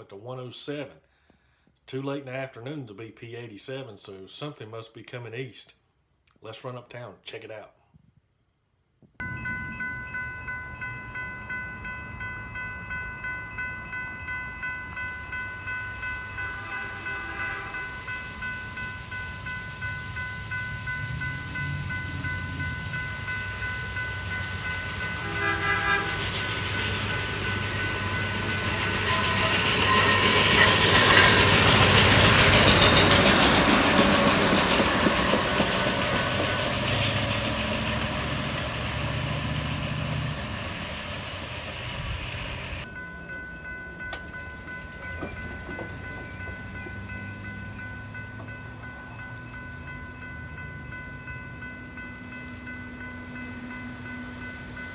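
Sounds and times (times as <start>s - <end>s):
rail equipment passing on track: 9.2s - 54.9s.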